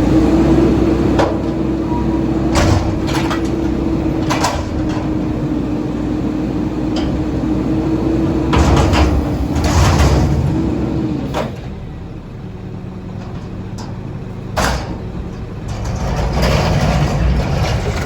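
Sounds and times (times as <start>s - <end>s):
garbage truck engine hum: 0.0s - 18.0s
metal clanks and bangs: 1.1s - 5.9s, 6.8s - 12.1s, 12.9s - 18.0s.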